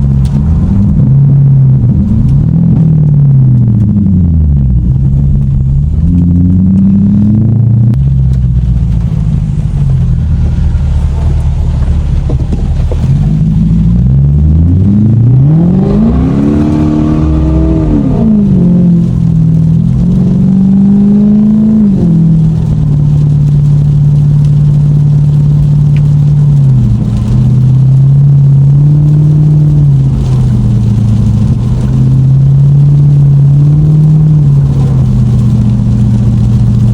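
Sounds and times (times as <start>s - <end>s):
car engine accelerating hard: 0.0s - 36.9s.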